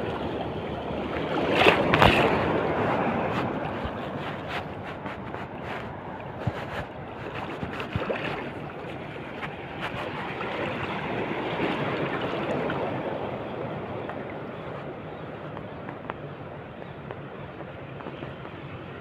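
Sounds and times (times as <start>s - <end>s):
water splashing around boat: 0.0s - 19.0s
wind on microphone: 0.0s - 19.0s.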